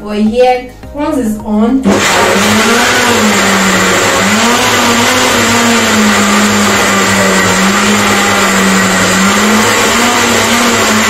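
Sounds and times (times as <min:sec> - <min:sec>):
blender motor whirring: 0:01.8 - 0:11.0.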